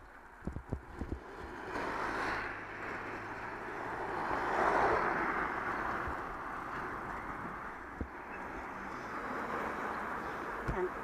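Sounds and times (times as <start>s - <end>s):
wind and tyre road noise: 0.0s - 11.0s.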